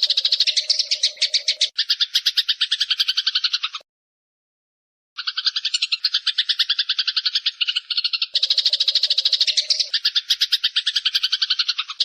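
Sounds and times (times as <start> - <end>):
sparrows chirping: 0.0 - 3.8, 5.2 - 12.0.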